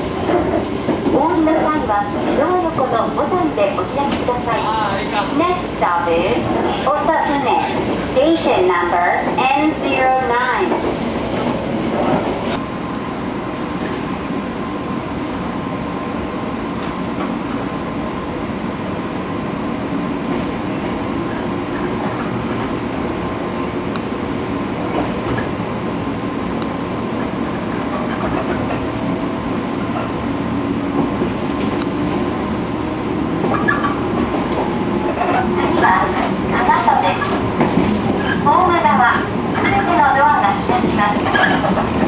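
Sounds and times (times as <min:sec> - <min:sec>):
electric train running rumble: 0:00.0 - 0:42.0.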